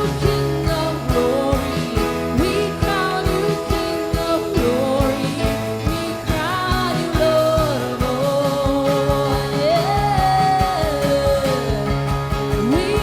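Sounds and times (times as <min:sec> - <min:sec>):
person singing: 0:00.0 - 0:13.0
steady drum beat: 0:00.0 - 0:13.0.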